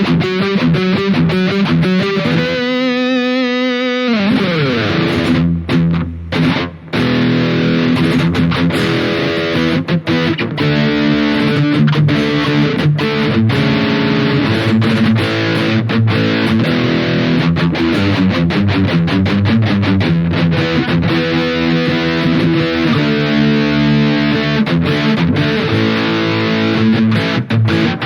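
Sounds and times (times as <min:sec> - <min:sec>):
distorted electric guitar riff: 0:00.0 - 0:28.0.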